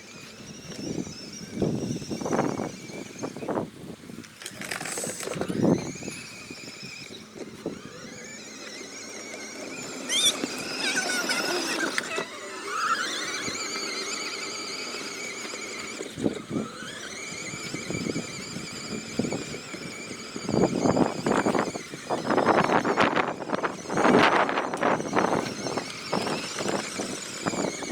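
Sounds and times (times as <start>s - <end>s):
electric motor whining: 0.0s - 27.9s.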